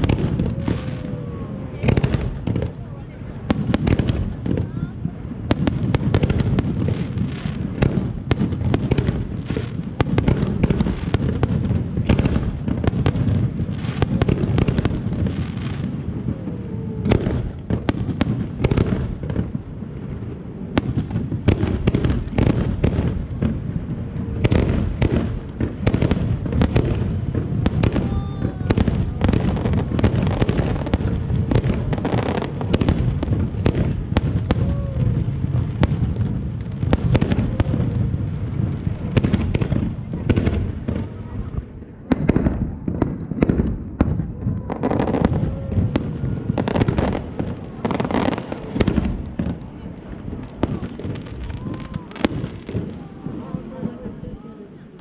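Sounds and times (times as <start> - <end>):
firework shell bursts and crackles: 0.0 - 54.2.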